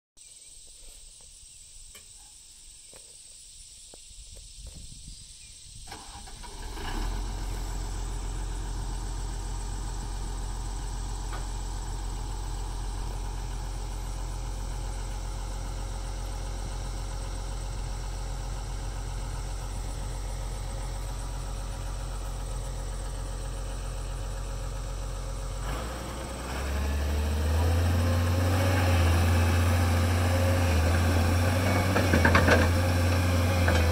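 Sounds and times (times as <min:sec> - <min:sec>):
excavator diesel engine idling: 0:06.0 - 0:33.9.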